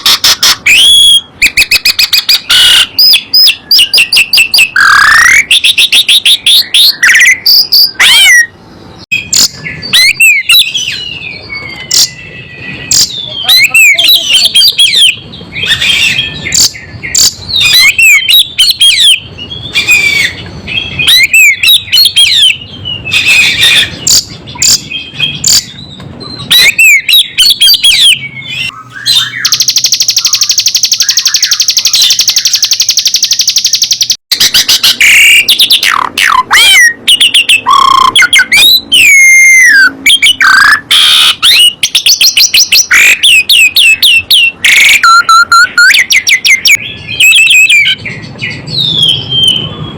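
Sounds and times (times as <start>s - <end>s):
fast buzzy high bird trill: 0.0s - 49.9s
songbirds chirping and whistling: 0.0s - 49.9s.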